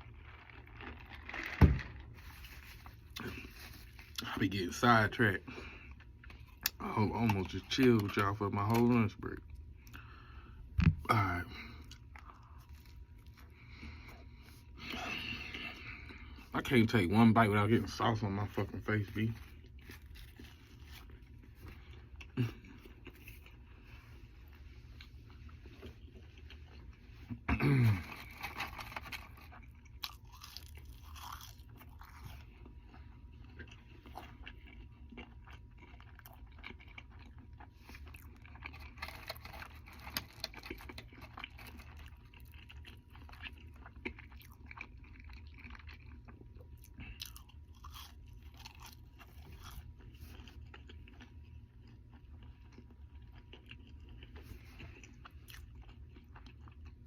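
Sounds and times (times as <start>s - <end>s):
chewing and biting burger: 0.0s - 16.5s, 17.8s - 57.0s.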